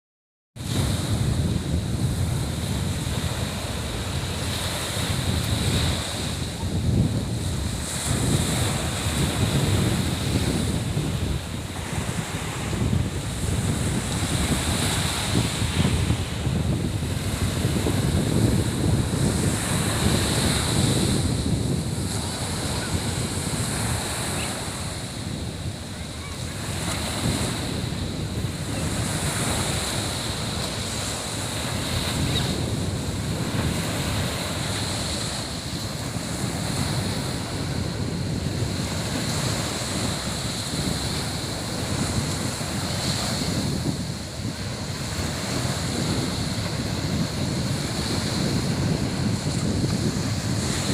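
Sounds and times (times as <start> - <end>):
sea surf washing onto beach: 0.6 - 50.9
wind buffeting microphone: 0.6 - 50.9.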